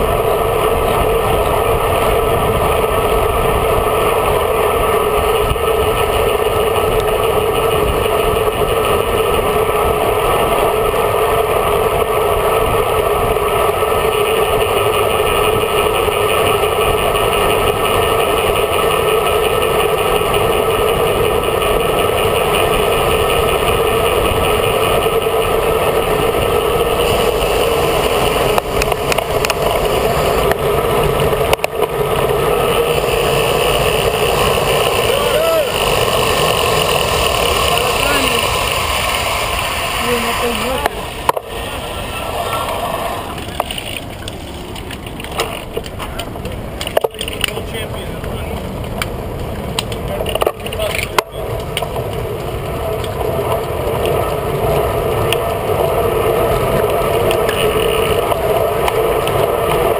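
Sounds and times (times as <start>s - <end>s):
tyre and road noise: 0.0s - 59.9s
wind buffeting microphone: 0.0s - 59.9s.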